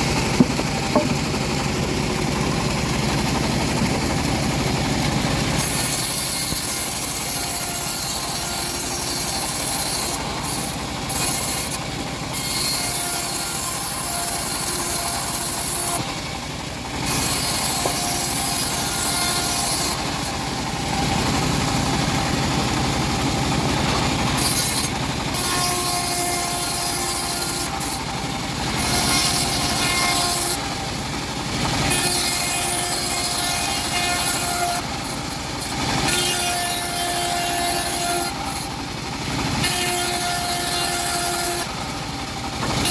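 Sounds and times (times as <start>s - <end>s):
bandsaw rasping through a log: 0.0s - 42.9s
saw whining: 0.0s - 42.9s.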